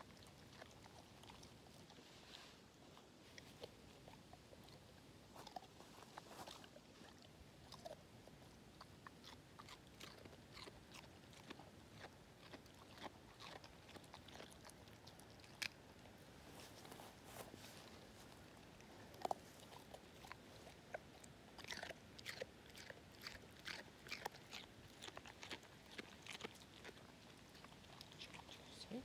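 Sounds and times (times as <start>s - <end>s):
dog chewing carrot: 0.0s - 29.0s.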